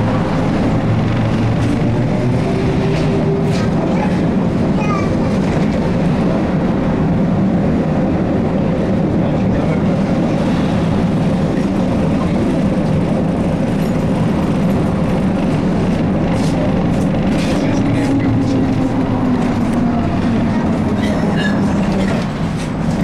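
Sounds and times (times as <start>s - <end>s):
trolleybus rumble on road: 0.0s - 23.0s.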